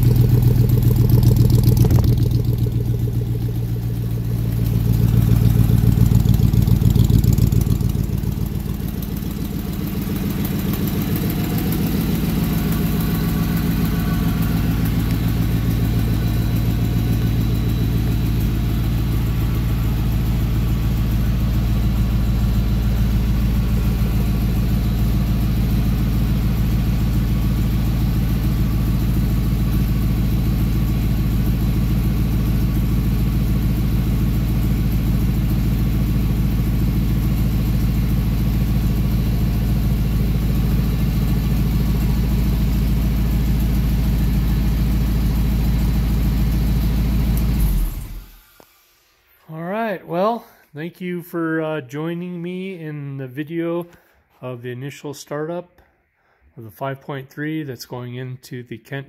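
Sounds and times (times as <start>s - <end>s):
car engine idling: 0.0s - 48.6s.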